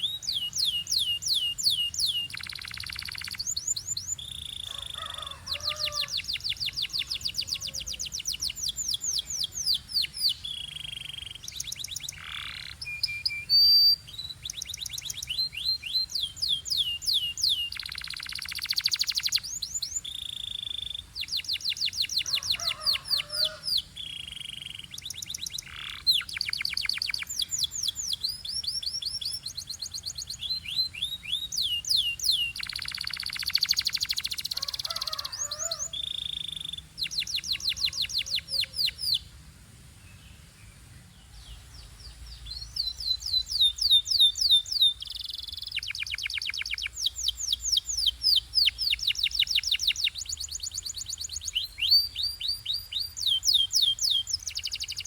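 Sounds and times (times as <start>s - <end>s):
canary singing trills: 0.0s - 39.3s, 41.2s - 55.0s.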